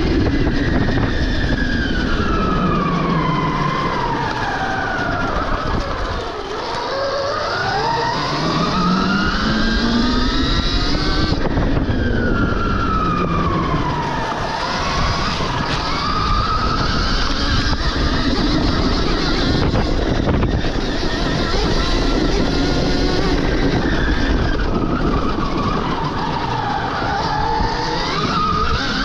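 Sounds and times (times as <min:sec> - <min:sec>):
electric dirt bike motor whining: 0:00.0 - 0:29.0
rush of riding noise: 0:00.0 - 0:29.0.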